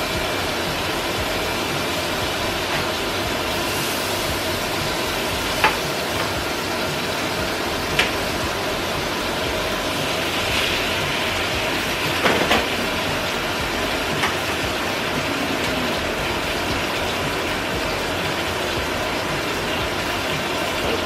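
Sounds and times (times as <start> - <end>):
eggs sizzling in a pan: 0.0 - 21.0.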